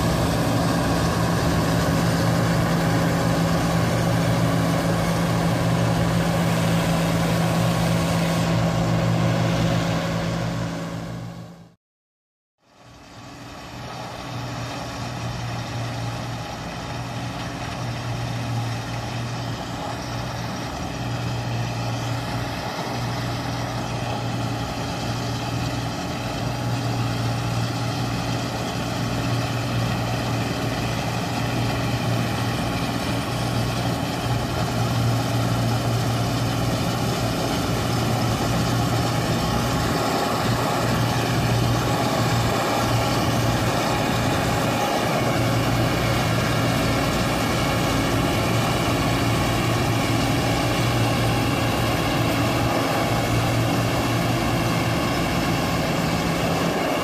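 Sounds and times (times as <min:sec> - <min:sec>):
combine harvester diesel engine: 0:00.0 - 0:11.8, 0:12.7 - 0:57.0.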